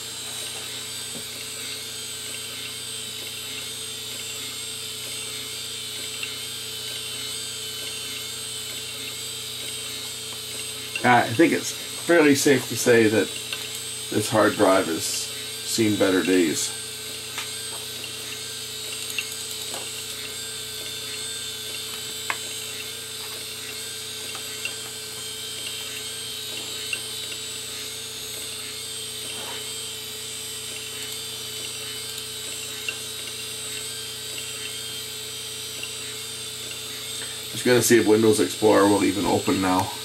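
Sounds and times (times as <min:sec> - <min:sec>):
hard drive whirring: 0:00.0 - 0:40.0
hard drive clicks: 0:00.7 - 0:14.9, 0:17.1 - 0:29.9, 0:30.5 - 0:37.8.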